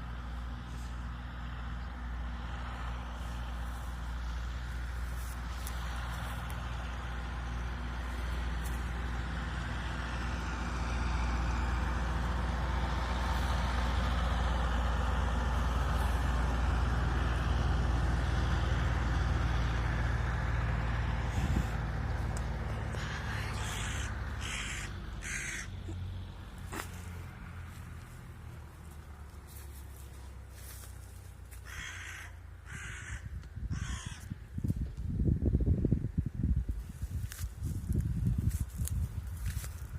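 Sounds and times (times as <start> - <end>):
large vehicle engine rumbling: 0.0 - 39.9.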